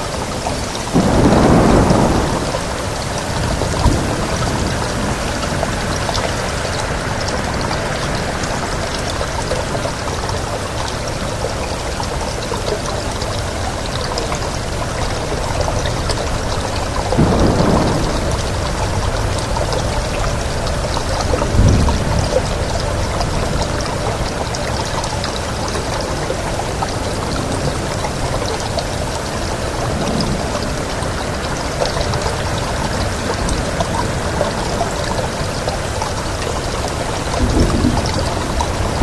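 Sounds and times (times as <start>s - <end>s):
steady rain: 0.0s - 39.0s
wind: 0.0s - 39.0s.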